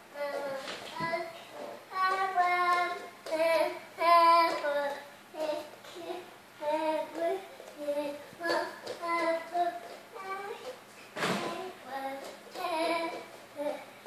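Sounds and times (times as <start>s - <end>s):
toddler singing: 0.1s - 13.9s.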